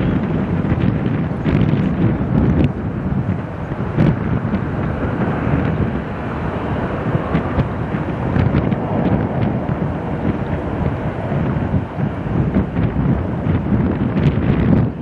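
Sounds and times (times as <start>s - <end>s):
distant jet engines: 0.0s - 15.0s
wind buffeting microphone: 0.0s - 15.0s.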